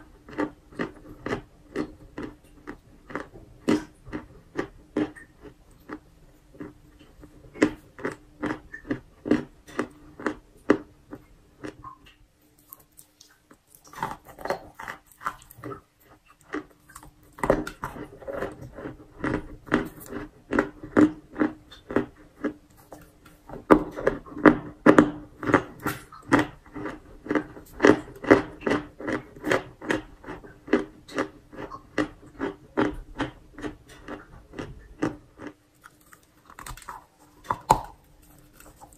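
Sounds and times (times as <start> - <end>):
chewing and crunching chalk: 0.0 - 38.9.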